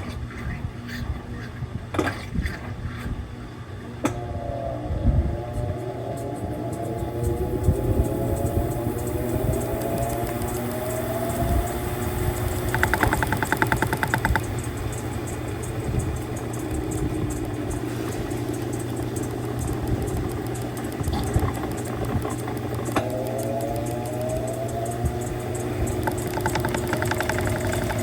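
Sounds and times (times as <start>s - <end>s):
washing machine mechanical hum: 0.0s - 28.0s
washing machine motor whining: 0.0s - 28.0s
rapid buzzing rattle: 4.7s - 28.0s.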